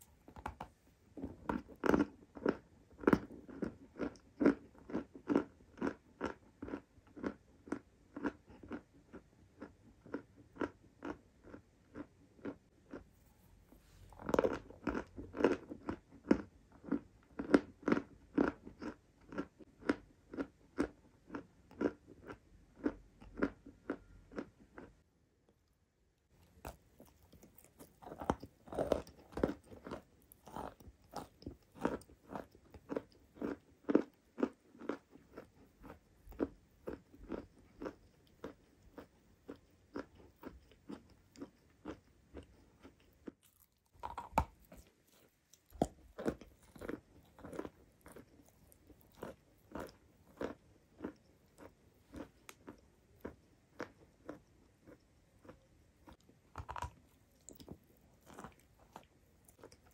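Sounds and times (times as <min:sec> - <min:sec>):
chalk crunching and chewing: 0:00.0 - 0:25.0, 0:26.4 - 0:59.9.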